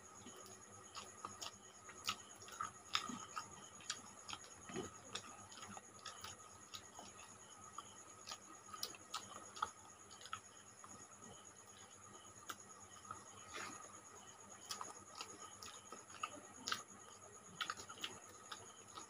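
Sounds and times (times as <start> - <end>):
mouths chewing food: 0.0 - 19.0.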